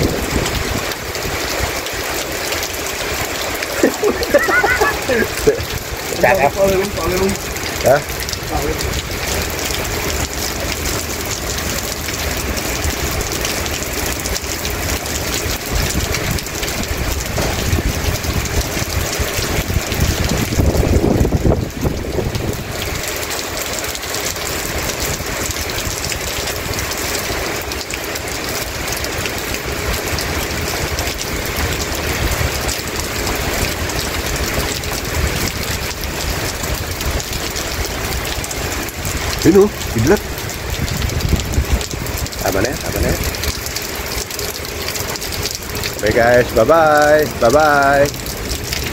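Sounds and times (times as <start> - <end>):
heavy rain on pavement: 0.0 - 48.9.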